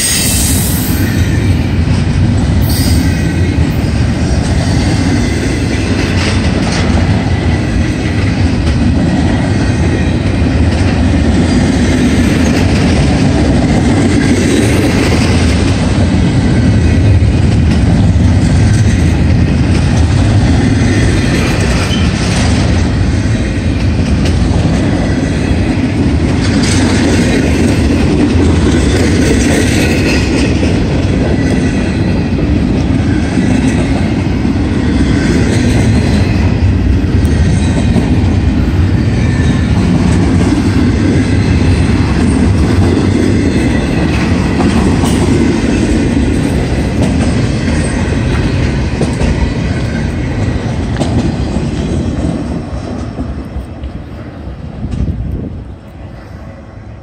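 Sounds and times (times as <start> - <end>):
steel train wheels on rail: 0.0 - 57.0.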